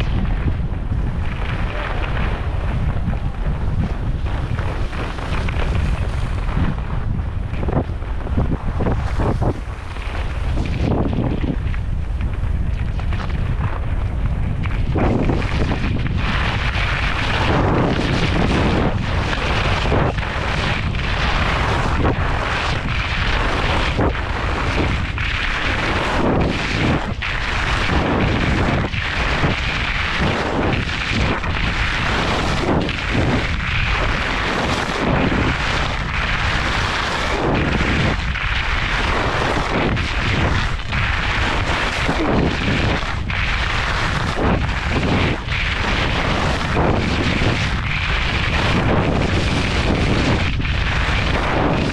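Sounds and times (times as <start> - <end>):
skis scraping on snow: 0.0 - 11.8, 12.8 - 51.9
wind buffeting microphone: 0.0 - 51.9.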